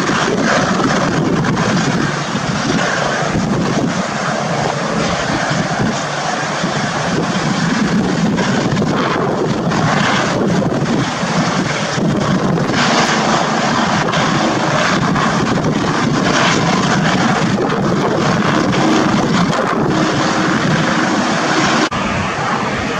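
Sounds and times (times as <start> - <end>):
helicopter rotor noise: 0.0 - 22.9
turbine engine whine: 0.0 - 22.9.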